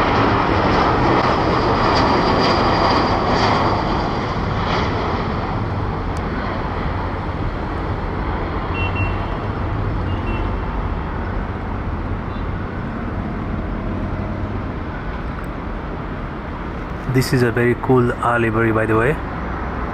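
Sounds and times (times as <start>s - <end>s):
jet airliner engine rushing: 0.0s - 19.9s.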